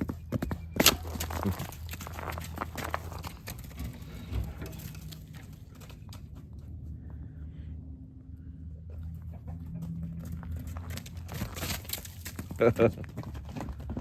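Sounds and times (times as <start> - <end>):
hoofbeats on icy snow: 0.0 - 14.0.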